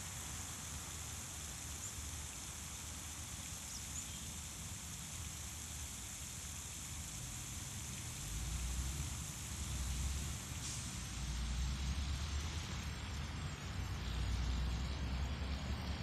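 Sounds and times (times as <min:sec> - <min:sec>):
low outdoor rumble and hiss: 0:00.0 - 0:16.0.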